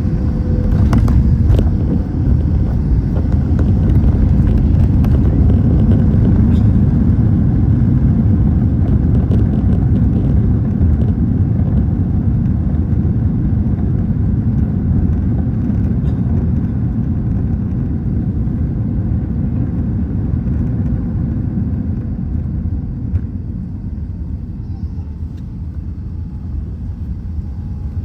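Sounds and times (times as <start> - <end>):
airliner cabin rumble while taxiing: 0.0 - 28.0.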